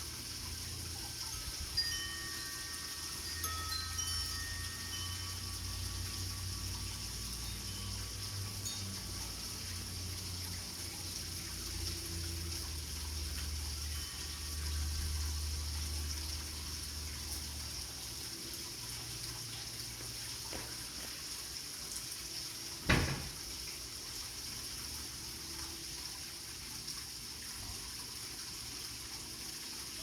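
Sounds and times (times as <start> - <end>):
tap water running: 0.0 - 30.0.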